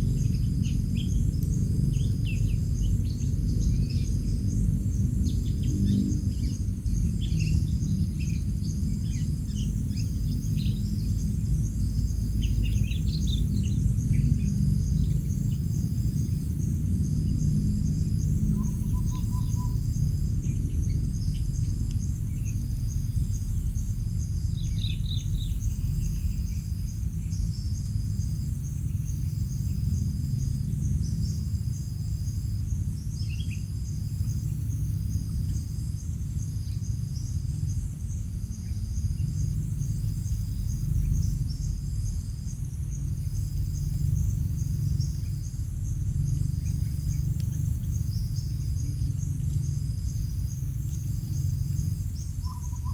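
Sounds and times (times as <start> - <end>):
constant low rumble: 0.0 - 52.9
crickets chirping: 0.0 - 52.9.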